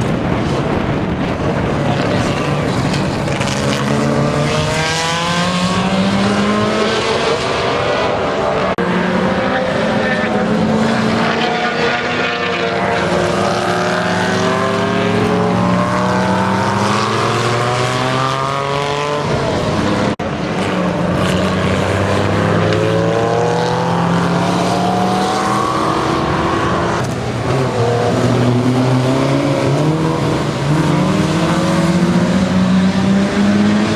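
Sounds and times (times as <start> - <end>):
racing car engines revving: 0.0 - 33.9.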